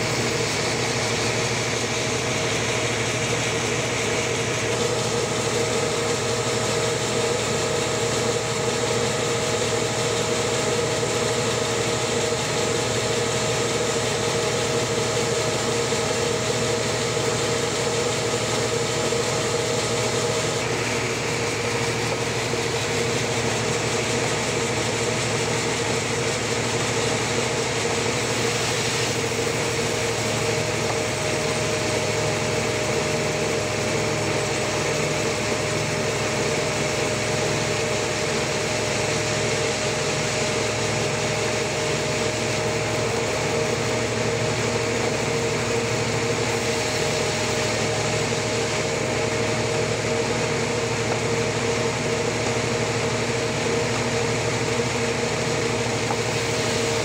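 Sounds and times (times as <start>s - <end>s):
sawmill droning: 0.0s - 57.0s.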